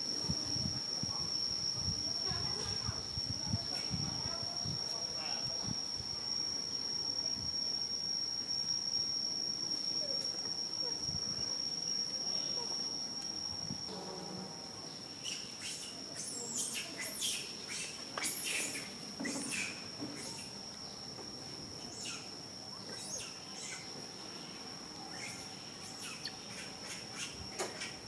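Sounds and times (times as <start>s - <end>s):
insect whine: 0.0s - 28.0s.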